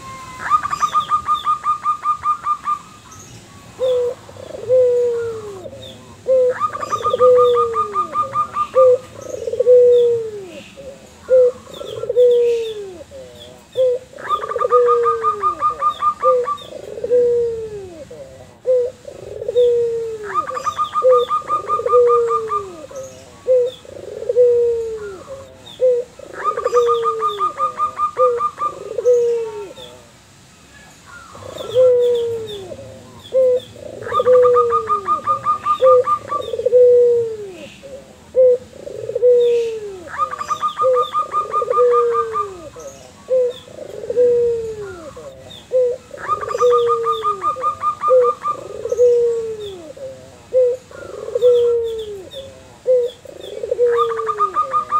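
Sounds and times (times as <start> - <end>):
doves cooing: 0.0 - 54.9
high evenly spaced bird notes: 0.0 - 54.9.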